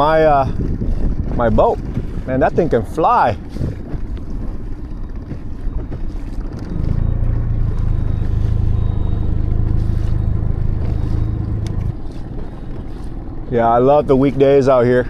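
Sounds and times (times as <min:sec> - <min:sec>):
outboard motor running: 0:00.0 - 0:15.0
water noise: 0:00.0 - 0:15.0
wind: 0:00.0 - 0:15.0.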